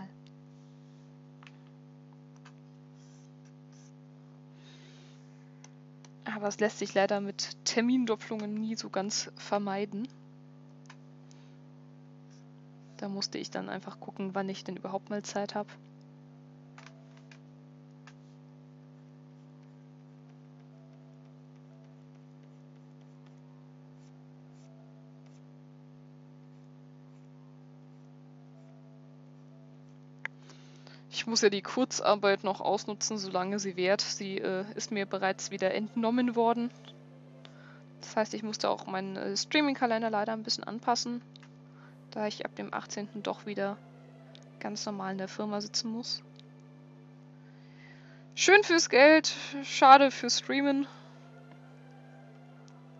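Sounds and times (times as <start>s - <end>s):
faint electrical hum: 0.0s - 52.9s.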